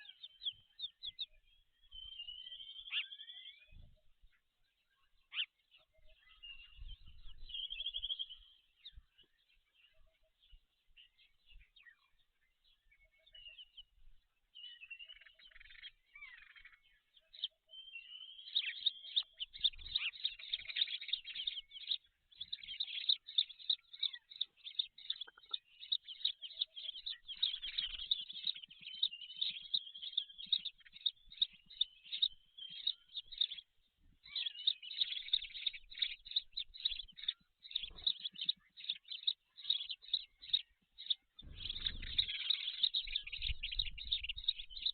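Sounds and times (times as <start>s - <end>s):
bird chirps and trills: 5.0s - 14.0s, 14.6s - 44.9s.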